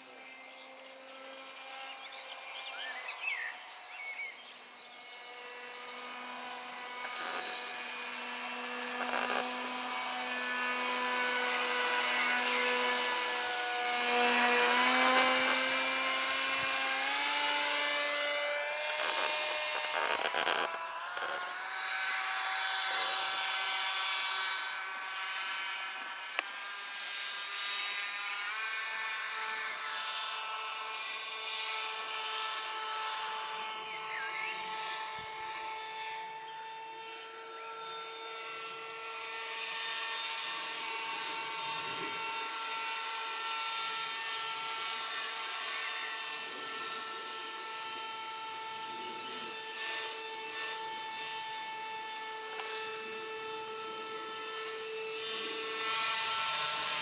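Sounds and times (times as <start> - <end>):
small motor and propeller whining: 0.0 - 57.0.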